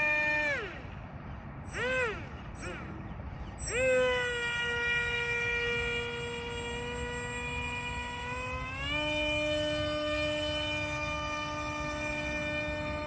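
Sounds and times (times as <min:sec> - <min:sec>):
electric boat motor whining: 0:00.0 - 0:13.0.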